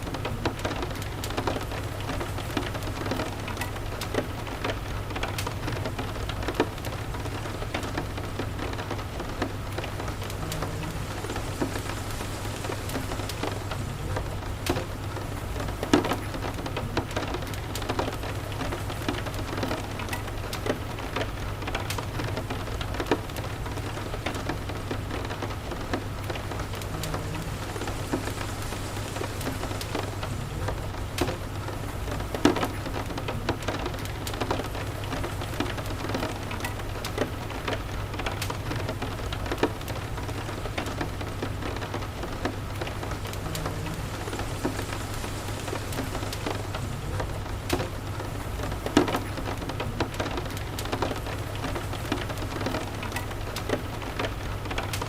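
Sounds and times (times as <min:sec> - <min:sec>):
rain: 0:00.0 - 0:55.0
wood fire crackling: 0:00.0 - 0:55.0.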